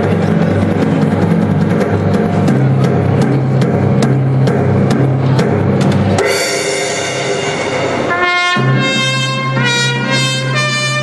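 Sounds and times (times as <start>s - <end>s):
electronic drum pad beat: 0.0s - 11.0s
low bass notes: 0.0s - 11.0s.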